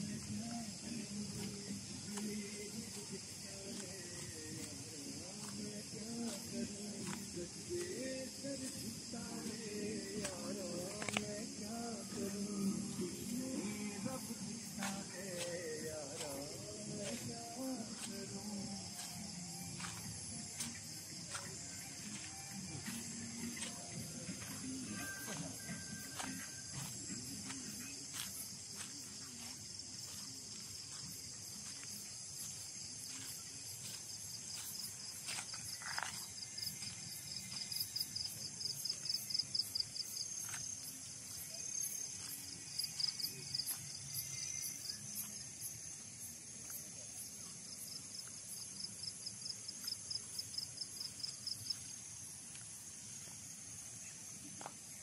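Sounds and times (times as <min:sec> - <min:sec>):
night insects chorus: 0:00.0 - 0:55.0
pulsing insect trill: 0:00.0 - 0:55.0.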